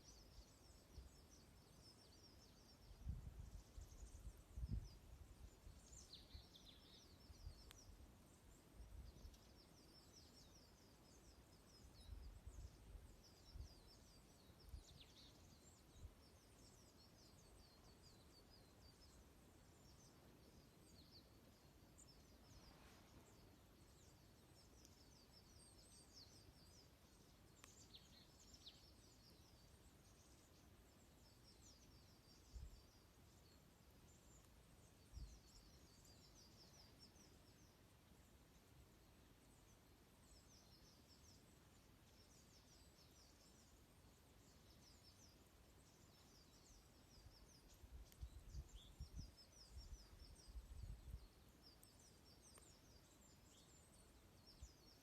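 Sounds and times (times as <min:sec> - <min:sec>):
flock of small birds twittering: 0:00.0 - 0:55.0.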